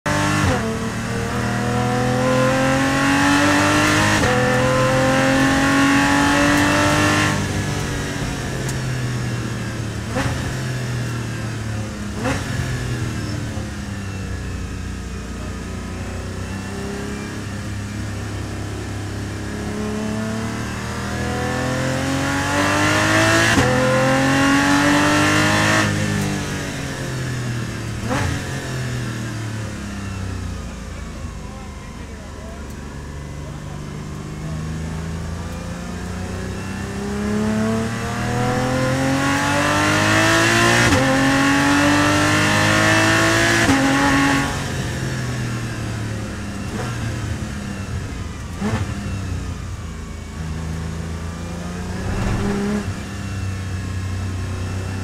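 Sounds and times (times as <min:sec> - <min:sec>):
car engine revving in cabin: 0:00.0 - 0:31.7, 0:32.5 - 0:55.0.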